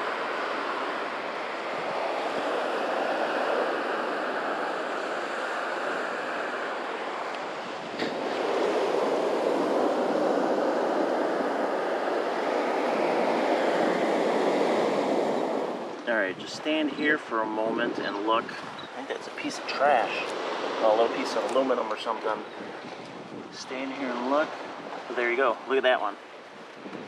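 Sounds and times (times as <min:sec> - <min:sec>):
surf washing up beach: 0:00.0 - 0:27.0.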